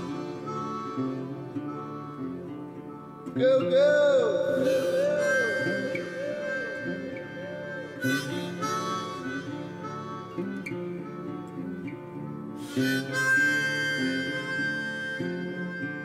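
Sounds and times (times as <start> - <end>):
harmonica and guitar tune: 0.0 - 16.0.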